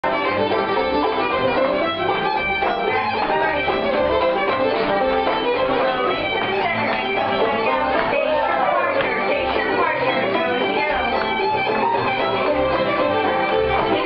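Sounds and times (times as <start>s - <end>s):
fiddle lead: 0.0s - 14.0s
strummed and plucked strings: 0.0s - 14.0s
upright bass: 0.0s - 14.0s.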